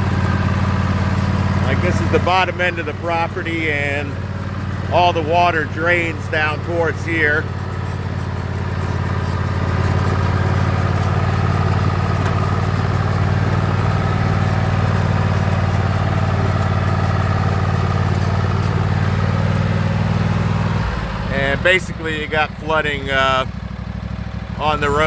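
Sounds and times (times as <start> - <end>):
lawn tractor engine running: 0.0 - 25.0.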